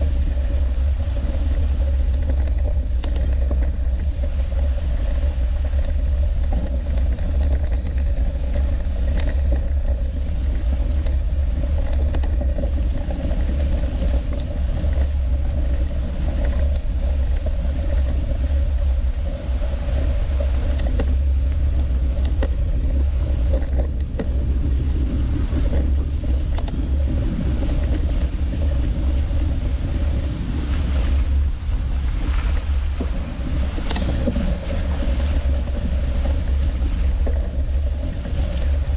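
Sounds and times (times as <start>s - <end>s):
bike rolling over gravel: 0.0s - 38.9s.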